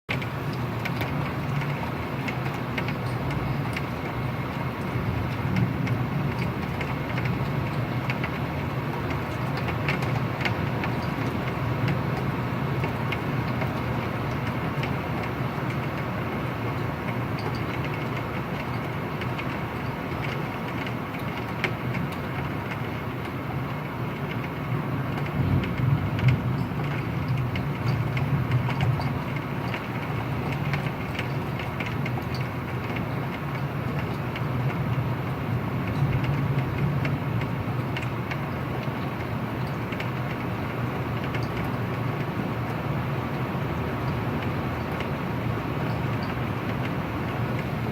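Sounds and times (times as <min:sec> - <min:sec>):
heavy rain pouring: 0:00.1 - 0:47.9.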